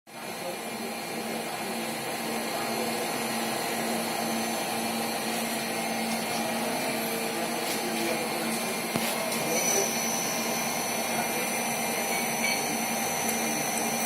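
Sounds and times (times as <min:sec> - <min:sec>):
machine whirring and humming: 0:00.1 - 0:14.0.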